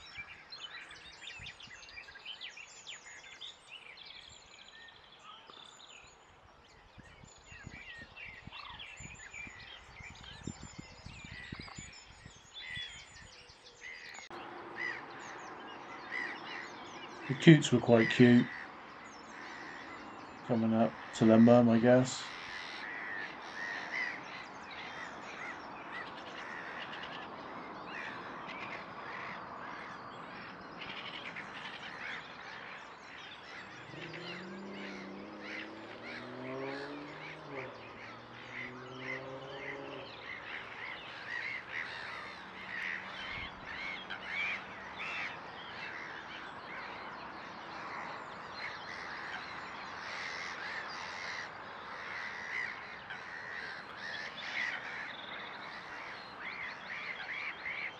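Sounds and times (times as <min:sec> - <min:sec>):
birds calling: 0:00.0 - 0:57.9.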